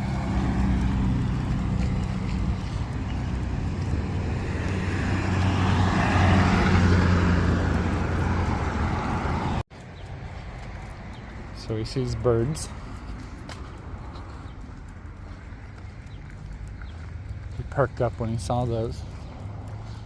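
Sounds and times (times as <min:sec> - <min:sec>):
outdoor background: 0:00.0 - 0:20.0
road noise: 0:00.0 - 0:20.0
vehicle engine hum: 0:00.0 - 0:20.0.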